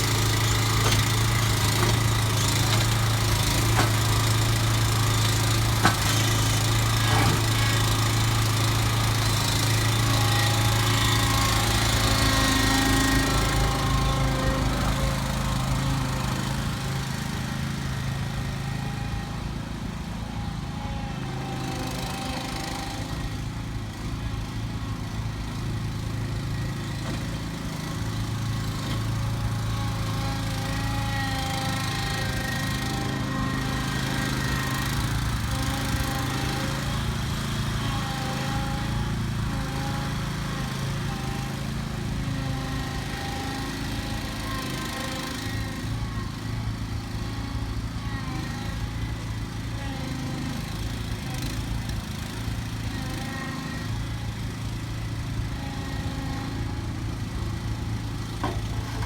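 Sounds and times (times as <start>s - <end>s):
snow removal machine engine running: 0.0s - 59.0s.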